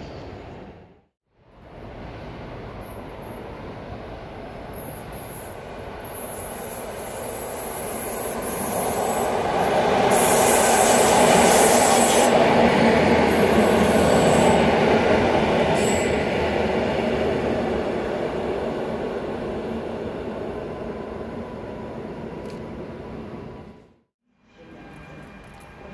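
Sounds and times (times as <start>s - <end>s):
electric train rumbling past: 0.0s - 25.9s.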